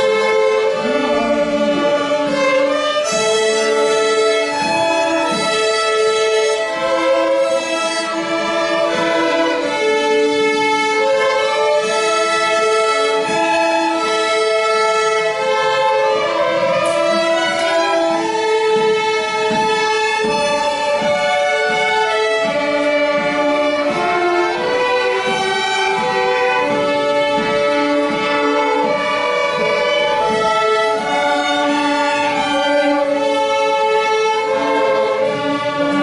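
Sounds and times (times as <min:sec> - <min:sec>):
string orchestra playing: 0:00.0 - 0:36.0.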